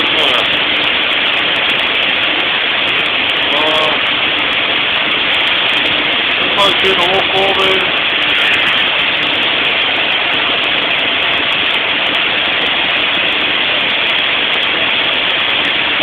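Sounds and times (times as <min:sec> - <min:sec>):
welding equipment hissing: 0:00.0 - 0:16.0.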